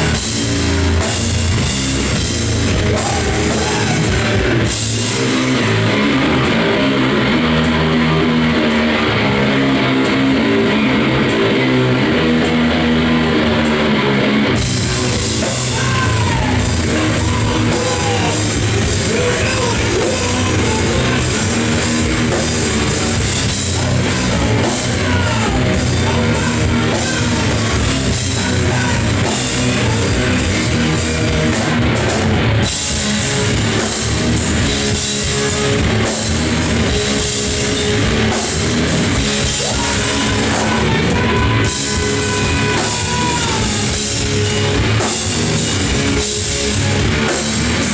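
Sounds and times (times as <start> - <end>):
noise rock band playing: 0.0 - 47.9.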